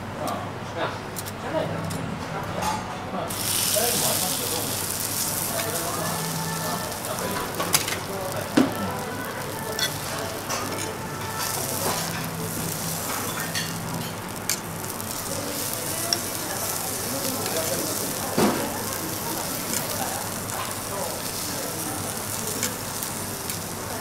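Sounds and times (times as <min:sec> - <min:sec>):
food sizzling on griddle: 0:03.3 - 0:24.0.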